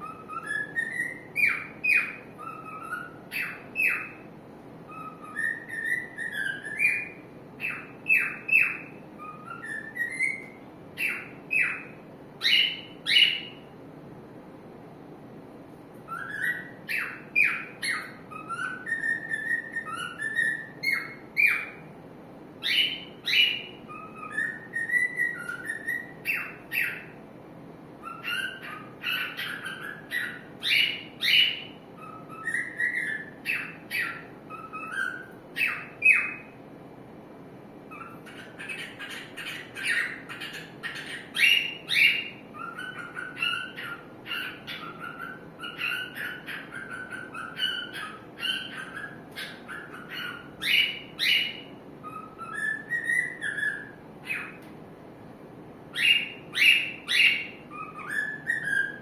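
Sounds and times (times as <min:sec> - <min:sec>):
cockatiel chirping and whistling: 0:00.0 - 0:04.3, 0:04.9 - 0:13.7, 0:16.0 - 0:21.8, 0:22.6 - 0:27.2, 0:28.0 - 0:36.6, 0:37.9 - 0:54.6, 0:55.9 - 0:59.0.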